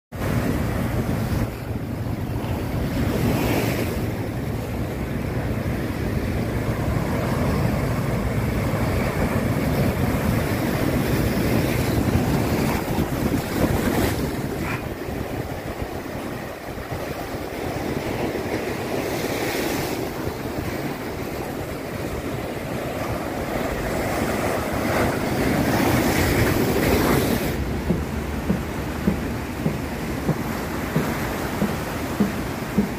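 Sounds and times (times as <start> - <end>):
wind buffeting microphone: 0.1 - 32.9.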